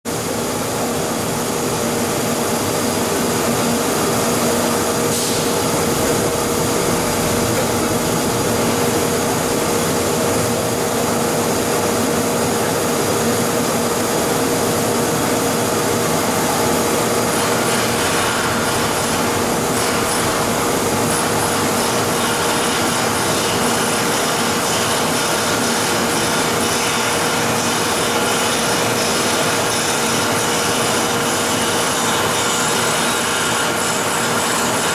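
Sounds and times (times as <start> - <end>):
recycling machine running: 0.1 - 34.9.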